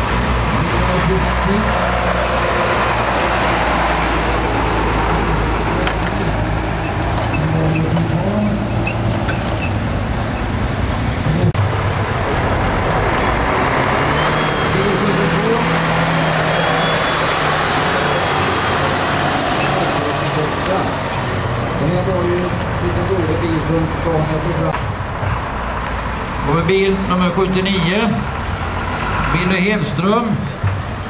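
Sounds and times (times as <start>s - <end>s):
truck diesel engine running: 0.0s - 29.8s.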